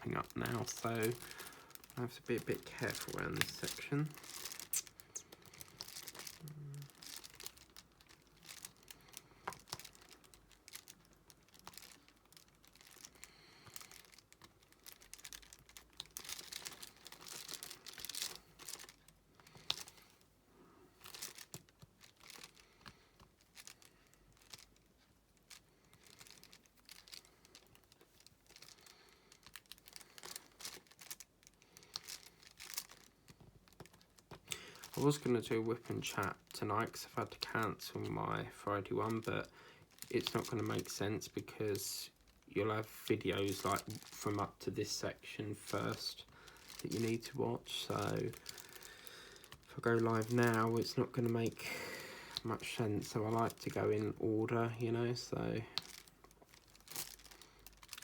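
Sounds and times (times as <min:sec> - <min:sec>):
small plastic clicks and crinkling: 0:00.0 - 0:20.3, 0:21.0 - 0:45.0, 0:45.7 - 0:54.2, 0:55.2 - 0:58.0
plastic film rustling: 0:00.0 - 0:58.0.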